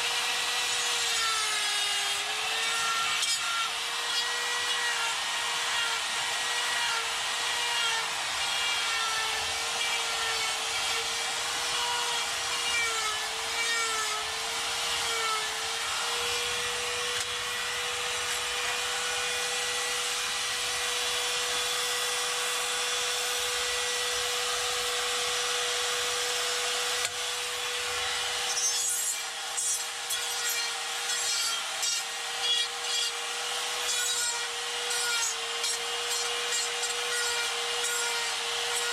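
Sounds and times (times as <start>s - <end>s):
die grinder grinding wood: 0.0s - 38.9s.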